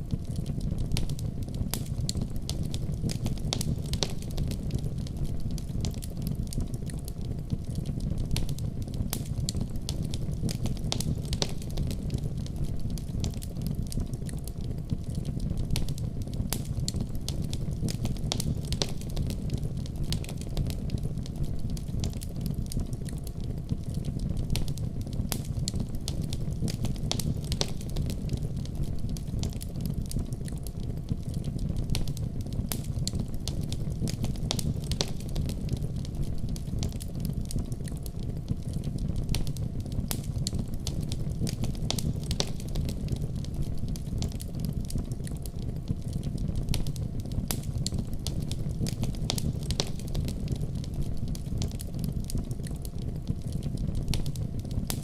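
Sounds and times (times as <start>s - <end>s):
sharp crackles and pops: 0.0s - 55.0s
wood fire crackling: 0.0s - 55.0s.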